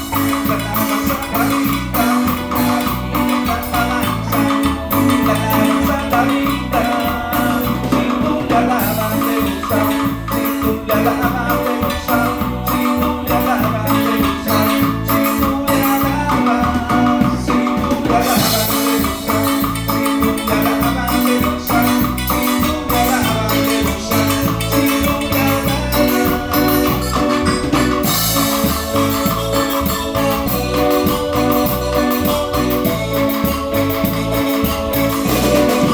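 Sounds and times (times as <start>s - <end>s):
bass: 0.0s - 35.9s
maraca rattling: 0.0s - 35.9s
marimba-like melody: 0.0s - 35.9s
percussion: 0.0s - 35.9s.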